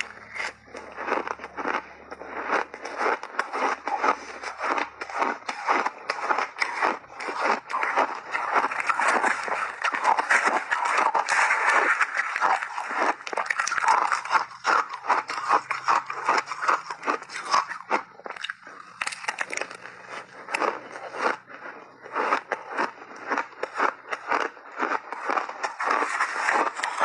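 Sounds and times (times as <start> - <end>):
spoon scraping icy mix: 0.0 - 21.4, 24.3 - 27.0
crunching shaved ice: 0.0 - 27.0.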